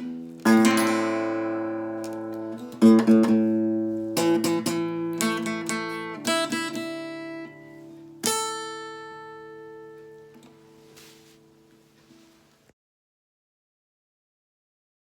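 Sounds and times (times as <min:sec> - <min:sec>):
solo guitar melody: 0:00.0 - 0:12.5.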